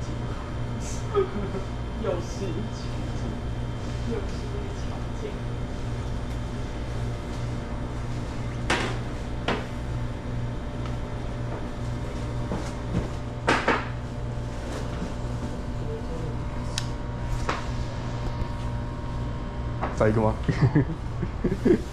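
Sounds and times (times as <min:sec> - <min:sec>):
low machine hum: 0:00.0 - 0:21.9.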